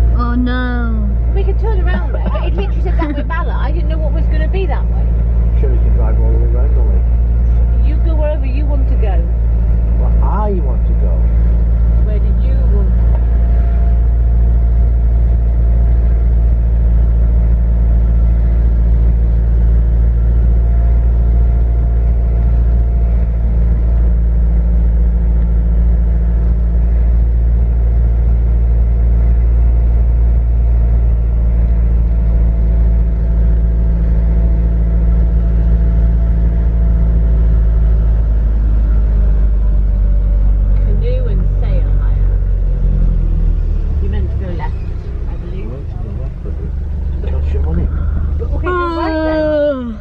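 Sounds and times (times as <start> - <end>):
car road and engine rumble: 0.0 - 50.0.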